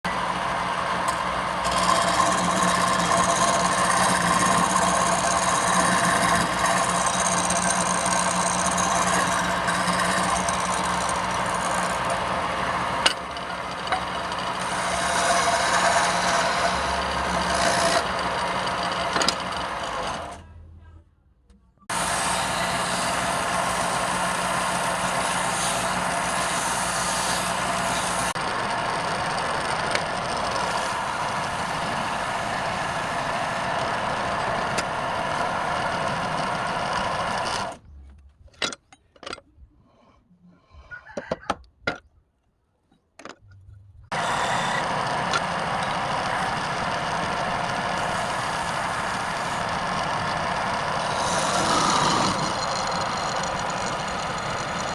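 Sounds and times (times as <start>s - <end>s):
wood lathe cutting: 0.1s - 20.4s, 21.9s - 37.8s, 44.1s - 54.9s.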